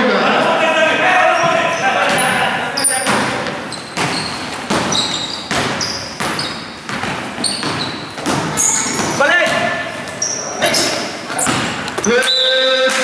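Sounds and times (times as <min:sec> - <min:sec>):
sneakers squeaking on floor: 0:00.0 - 0:13.0
basketball bouncing on hard court: 0:01.4 - 0:12.1.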